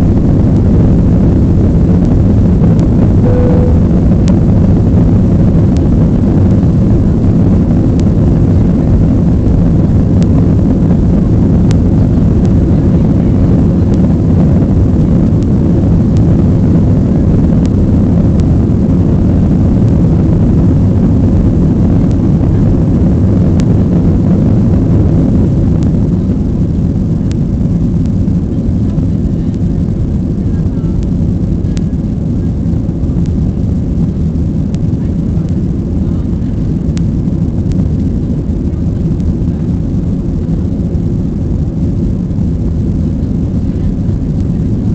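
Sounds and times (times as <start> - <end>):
aircraft engines rumbling: 0.0 - 44.9.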